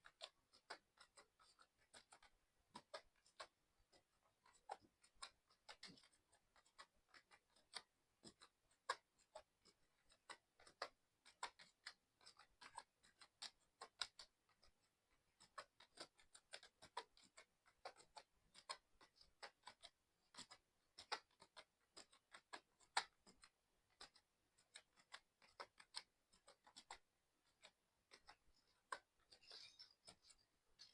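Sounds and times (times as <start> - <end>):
typing on mechanical keyboard: 0.0 - 30.9.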